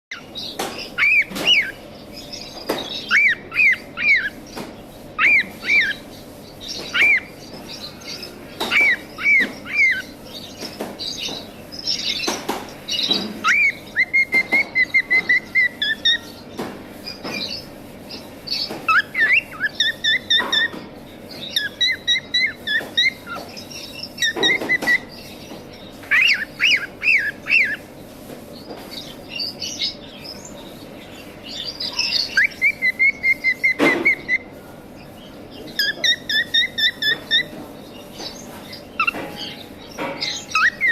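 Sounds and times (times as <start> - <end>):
cockatiels chirping: 0.1 - 27.9, 28.6 - 40.9.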